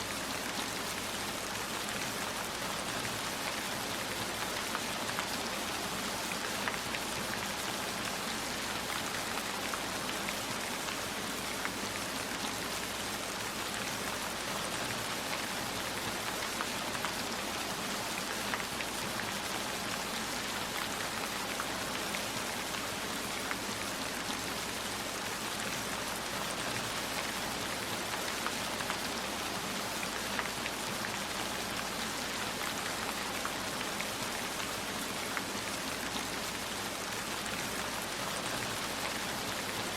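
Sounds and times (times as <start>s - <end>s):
steady rain with drop ticks: 0.0s - 39.9s.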